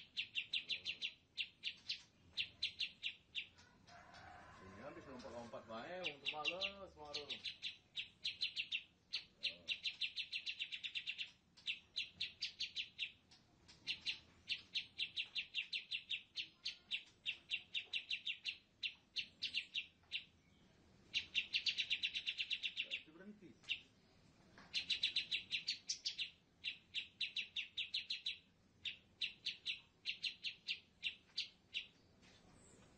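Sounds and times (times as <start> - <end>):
bird trilling: 0.0 - 3.6, 4.7 - 13.2, 13.8 - 20.4, 21.1 - 23.9, 24.7 - 31.9.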